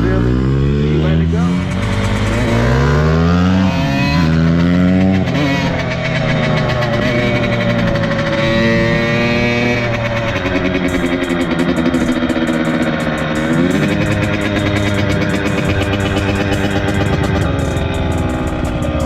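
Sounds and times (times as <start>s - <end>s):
dirt bike engine accelerating: 0.0s - 19.0s.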